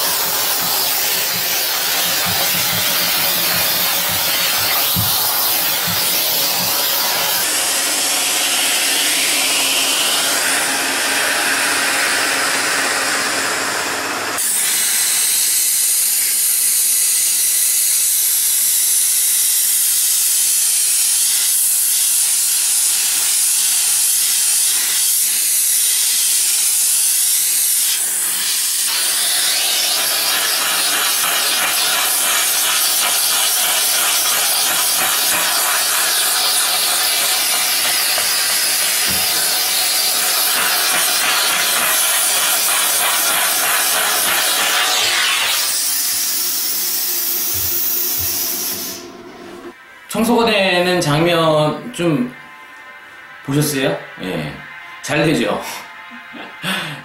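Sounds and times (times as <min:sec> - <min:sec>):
steam hissing from nozzle: 0:00.0 - 0:12.0, 0:14.3 - 0:49.2.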